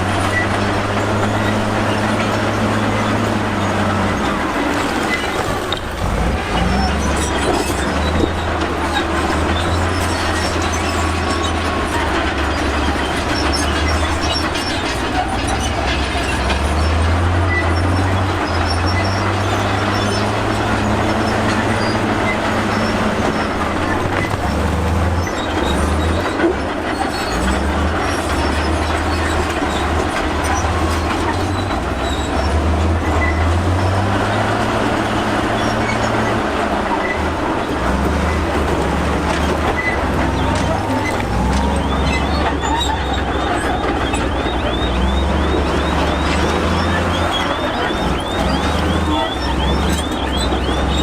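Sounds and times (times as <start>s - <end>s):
diesel engine running: 0.0s - 51.0s
steel tracks clanking and squealing: 0.0s - 51.0s.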